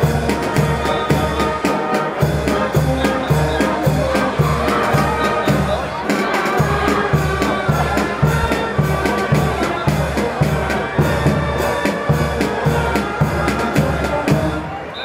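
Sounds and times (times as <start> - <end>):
drum beat: 0.0 - 14.7
marching band playing: 0.0 - 15.0.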